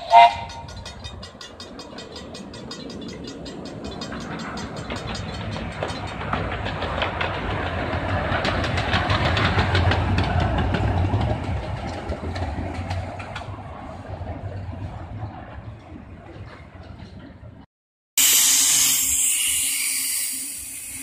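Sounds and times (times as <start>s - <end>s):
steam locomotive chuffing: 0.0s - 17.4s, 18.2s - 21.0s
wheels rumbling on rails: 0.0s - 17.7s.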